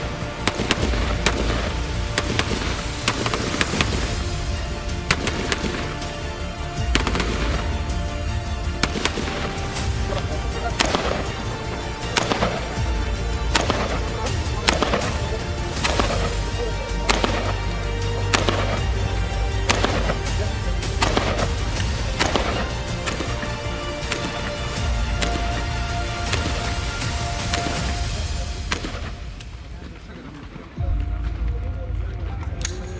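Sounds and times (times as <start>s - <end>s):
rifle shots: 0.0s - 30.6s.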